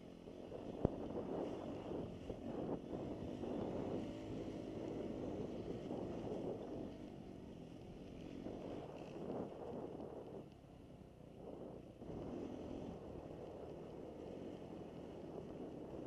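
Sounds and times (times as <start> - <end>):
dirt bike engine running: 0.0 - 16.0
wind buffeting microphone: 0.5 - 7.0, 8.4 - 10.5, 11.3 - 16.0.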